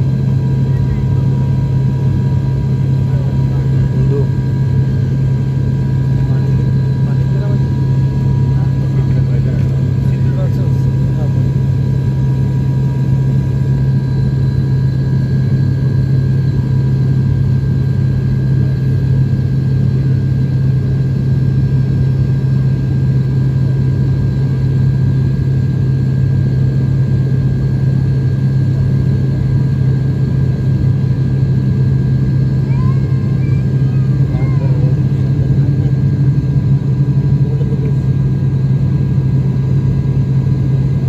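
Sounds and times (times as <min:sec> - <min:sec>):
turboprop cabin drone: 0:00.0 - 0:41.0.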